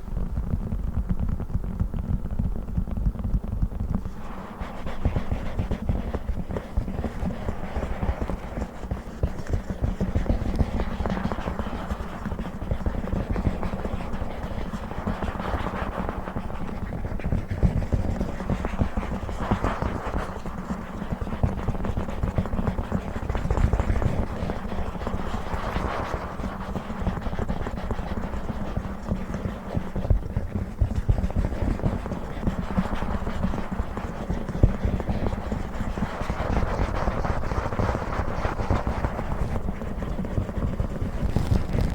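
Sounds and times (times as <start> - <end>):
fingertips tapping and scratching book: 3.8 - 41.9.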